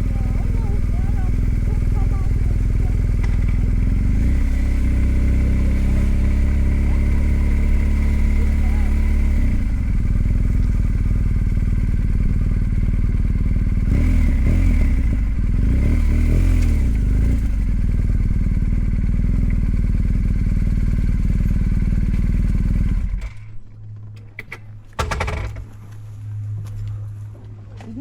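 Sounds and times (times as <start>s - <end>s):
motorcycle engine running: 0.0s - 23.9s, 25.0s - 28.0s.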